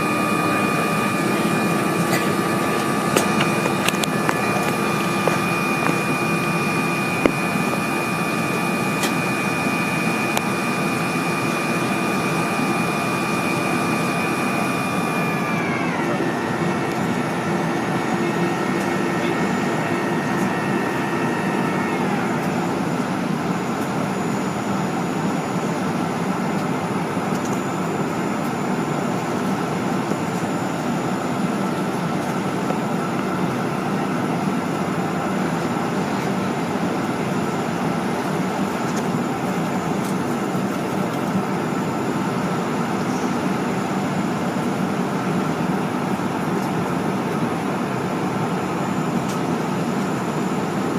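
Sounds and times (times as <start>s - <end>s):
faint high whine: 0.0s - 50.9s
jet engine and airflow rumble: 0.0s - 50.9s.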